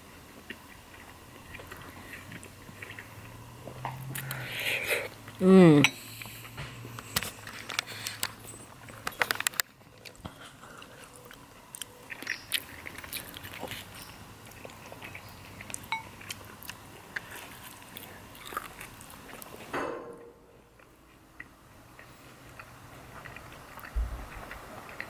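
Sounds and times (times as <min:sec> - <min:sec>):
person chewing food: 0:00.0 - 0:05.4, 0:06.0 - 0:19.7, 0:20.7 - 0:25.0.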